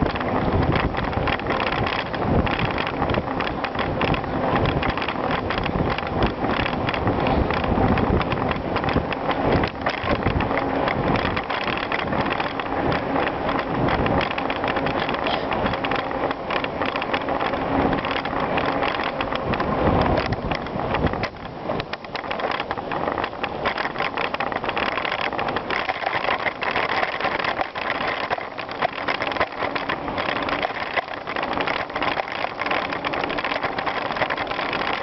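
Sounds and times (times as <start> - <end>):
bicycle frame rattling: 0.0 - 35.0
bicycle tyres crunching on gravel: 0.0 - 35.0
wind noise on microphone: 0.0 - 35.0.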